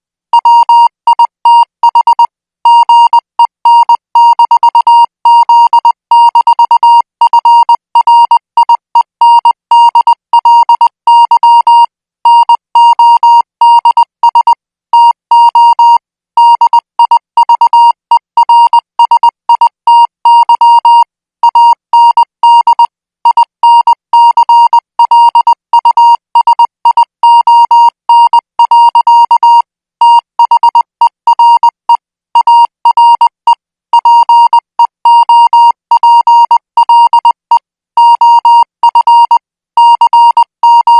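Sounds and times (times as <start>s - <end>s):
morse code beeps: 0.4s - 40.9s.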